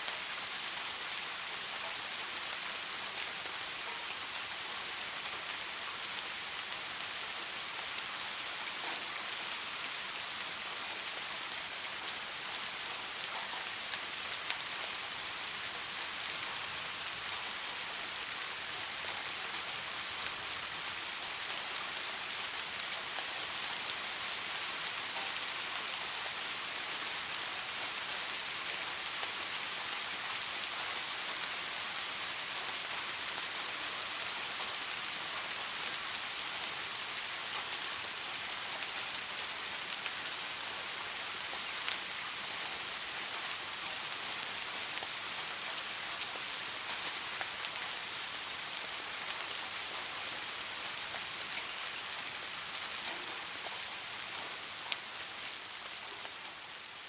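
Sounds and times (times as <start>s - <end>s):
steady soft rain: 0.0s - 57.0s.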